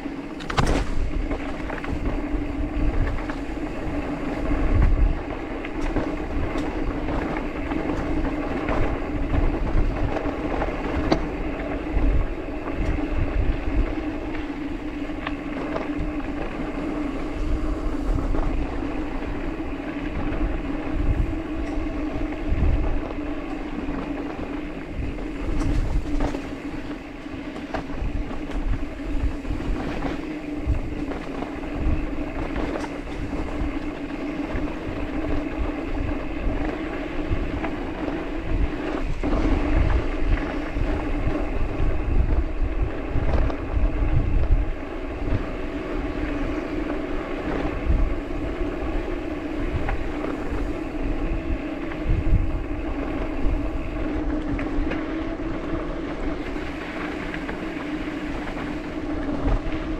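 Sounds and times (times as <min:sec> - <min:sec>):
bike clicks and rattles: 0:00.0 - 0:59.9
mountain bike rolling on dirt: 0:00.0 - 0:59.9
wind rumbling on microphone: 0:00.0 - 0:59.9.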